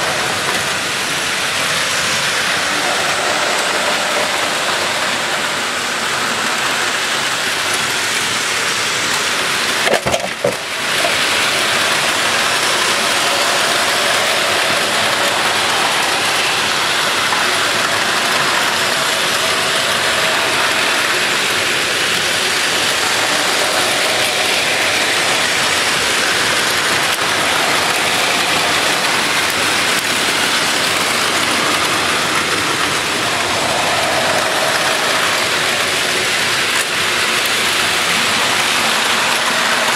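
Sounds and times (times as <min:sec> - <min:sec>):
toy train motors whirring: 0:00.0 - 0:39.9
toy train wheels clattering: 0:00.0 - 0:39.9.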